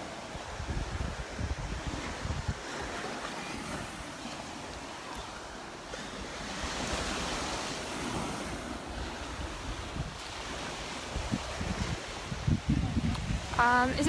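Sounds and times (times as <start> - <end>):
surf washing onto beach: 0.0 - 14.0
wind rumbling on microphone: 0.0 - 14.0.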